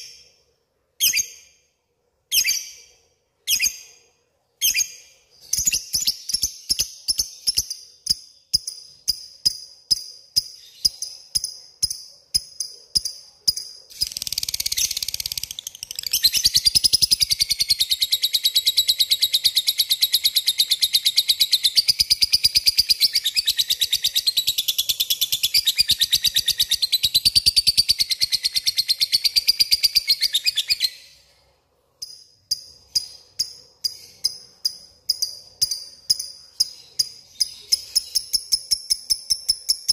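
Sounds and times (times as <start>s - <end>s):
lovebird chirping and trilling: 1.0s - 1.6s, 2.3s - 31.2s, 32.0s - 39.9s.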